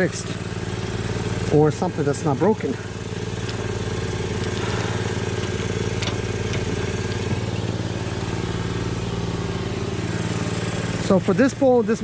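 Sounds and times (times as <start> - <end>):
motor running with fast pulse: 0.0 - 12.0.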